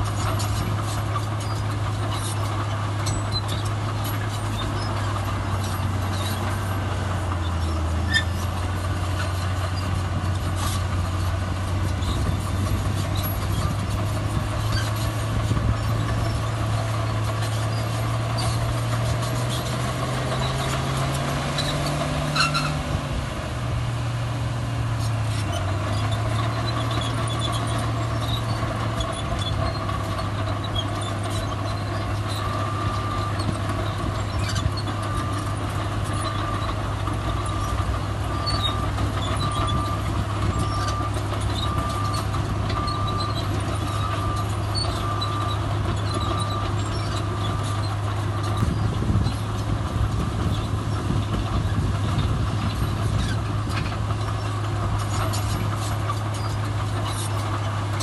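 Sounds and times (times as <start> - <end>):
diesel machinery engine running: 0.0 - 58.0.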